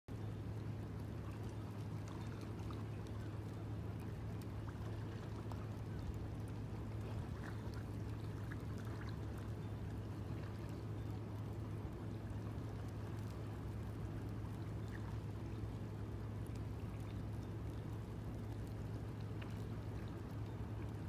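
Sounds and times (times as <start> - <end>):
constant low hum: 0.1 - 21.0.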